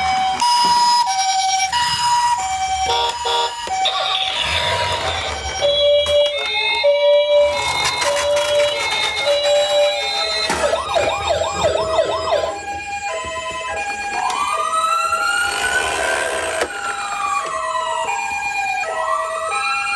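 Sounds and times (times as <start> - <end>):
toy ambulance sirens: 0.0 - 19.9.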